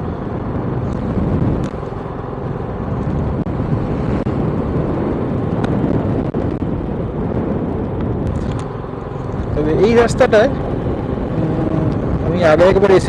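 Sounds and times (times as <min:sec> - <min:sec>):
motorcycle engine rumble: 0:00.0 - 0:13.0
wind on microphone: 0:00.0 - 0:13.0.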